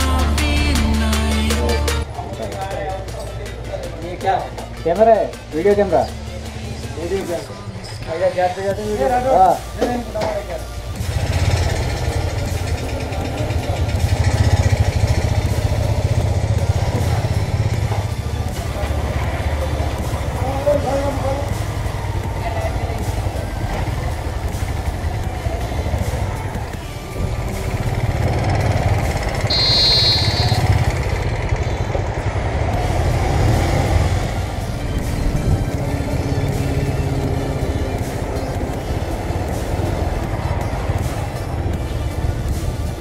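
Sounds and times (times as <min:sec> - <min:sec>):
motorcycle engines idling: 0:00.0 - 0:43.0.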